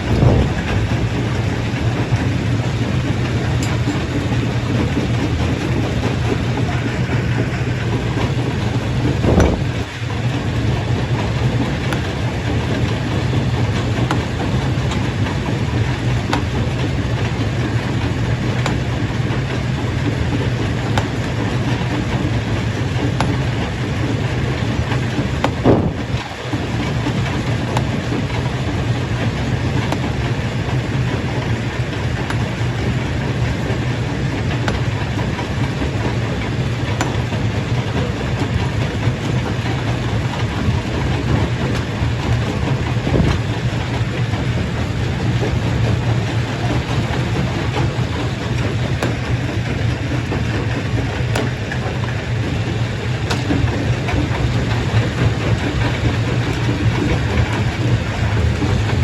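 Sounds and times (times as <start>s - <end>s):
stone crusher droning: 0.0s - 59.0s.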